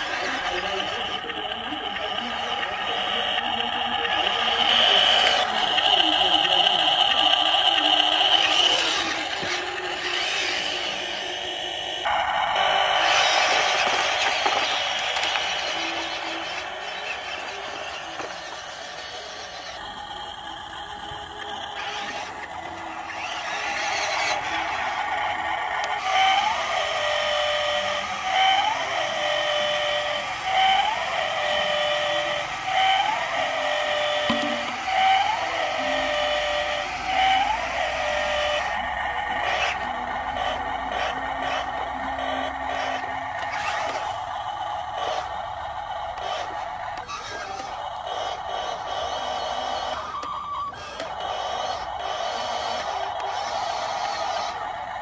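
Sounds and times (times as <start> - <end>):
toy truck motor whine: 0.0 - 55.0.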